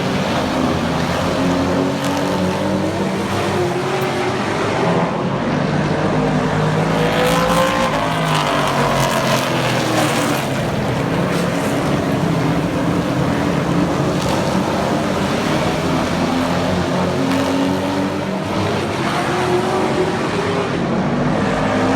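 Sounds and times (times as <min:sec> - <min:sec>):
race truck engines passing: 0:00.0 - 0:21.9.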